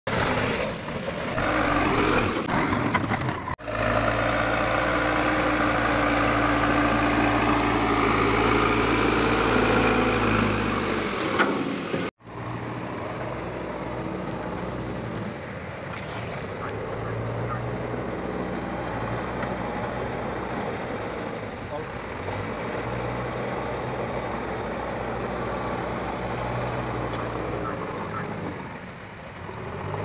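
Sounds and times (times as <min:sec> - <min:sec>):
diesel engine running under load: 0:00.1 - 0:15.8, 0:16.5 - 0:30.0.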